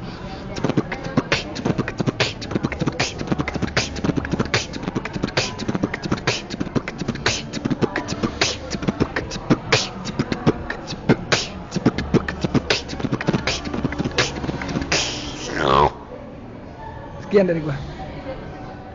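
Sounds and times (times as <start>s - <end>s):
person beatboxing: 0.4s - 16.0s.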